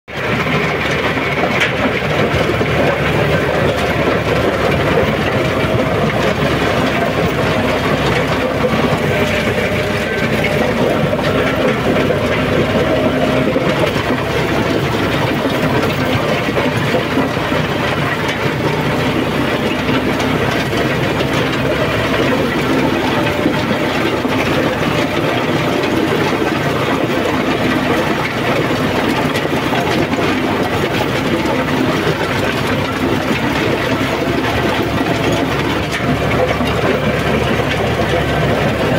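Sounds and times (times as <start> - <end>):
tractor diesel engine under load: 0.0 - 38.9
rotavator churning dry soil: 0.1 - 38.9.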